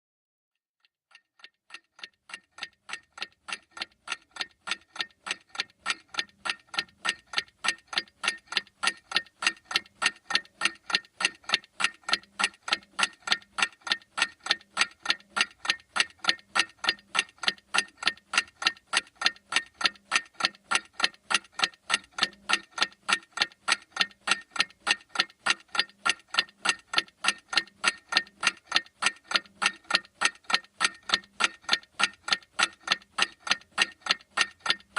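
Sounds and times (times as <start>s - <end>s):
clock ticking: 0.8s - 34.9s.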